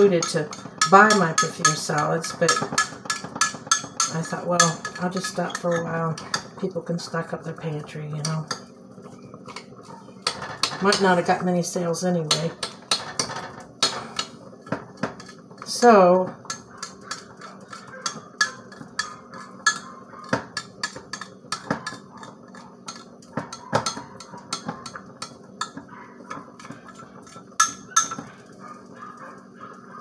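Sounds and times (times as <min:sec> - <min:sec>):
utensil scraping cookware: 0:00.0 - 0:06.7, 0:09.5 - 0:28.4.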